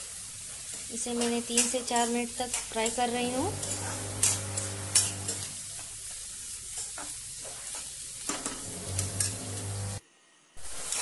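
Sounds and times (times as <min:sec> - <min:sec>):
onions sizzling in oil: 0:00.0 - 0:10.0, 0:10.6 - 0:11.0
spatula scraping pan: 0:00.5 - 0:10.0.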